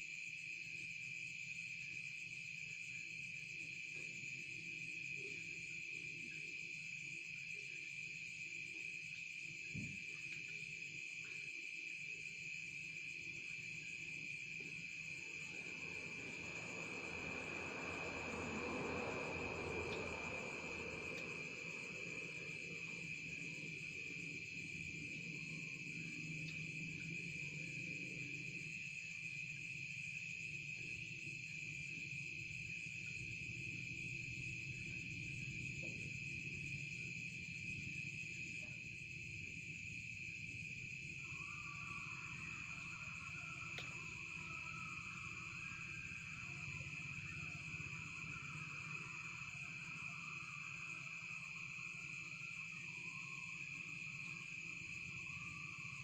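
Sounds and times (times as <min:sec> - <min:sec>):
crickets trilling: 0:00.0 - 0:56.0
faint uneven insect chirring: 0:00.0 - 0:56.0.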